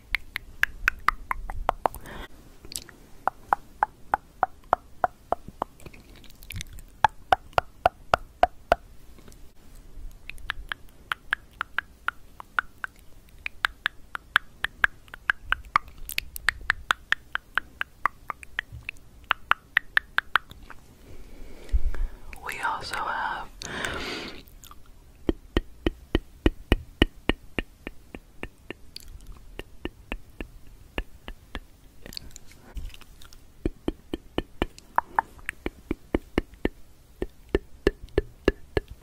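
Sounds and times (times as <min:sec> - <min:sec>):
tongue clicking: 0:00.0 - 0:09.4, 0:10.1 - 0:20.8, 0:22.3 - 0:39.0.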